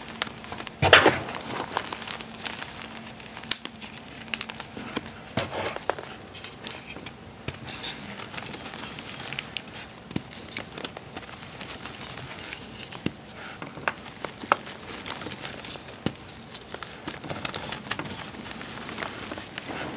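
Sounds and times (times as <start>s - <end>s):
chalk crunching and crackling: 0.0s - 19.9s.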